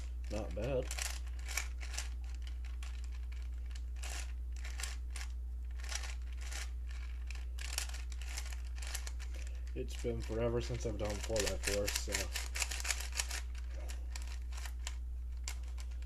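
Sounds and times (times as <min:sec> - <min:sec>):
puzzle cube clicking and swishing: 0:00.0 - 0:09.3, 0:11.0 - 0:16.0
steady low hum: 0:00.0 - 0:16.0.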